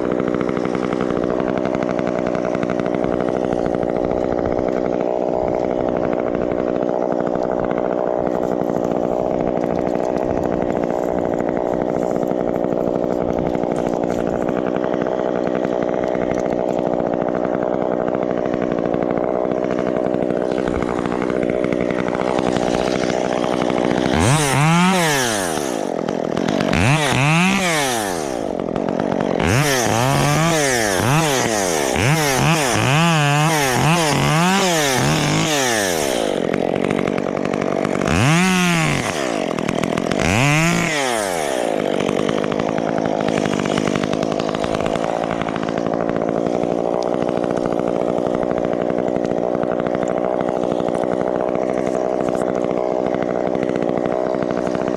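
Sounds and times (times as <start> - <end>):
chainsaw engine revving: 0.0 - 54.9.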